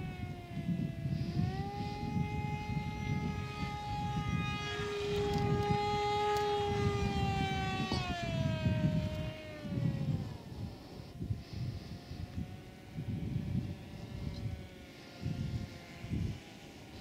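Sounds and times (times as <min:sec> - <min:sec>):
rc plane motor whining: 0:00.0 - 0:17.0.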